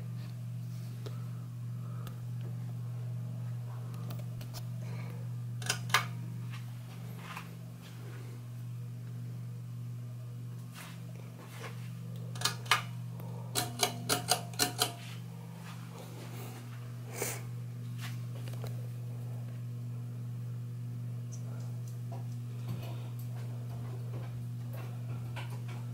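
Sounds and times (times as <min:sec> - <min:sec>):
ceiling fan motor hum: 0:00.0 - 0:25.9.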